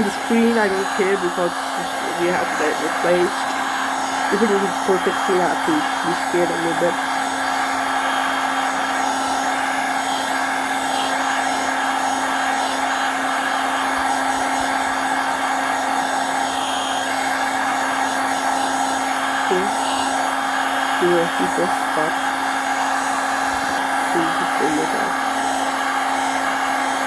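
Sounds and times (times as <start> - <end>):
hot-air blower humming: 0.0 - 27.0.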